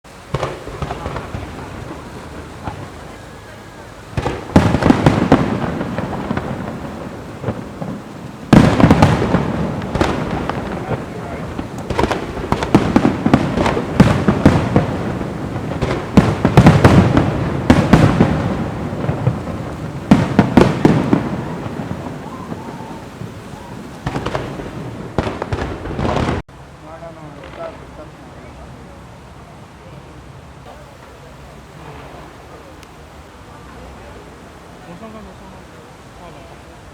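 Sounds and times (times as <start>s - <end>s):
fireworks bangs and crackling: 0.1s - 30.0s, 30.6s - 36.9s.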